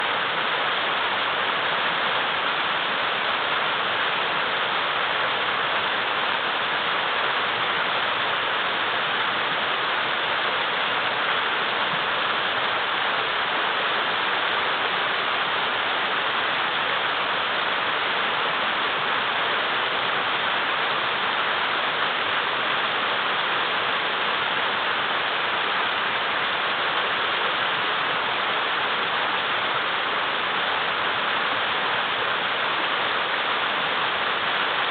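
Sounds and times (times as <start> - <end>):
river water rushing over boulders: 0.0 - 34.9.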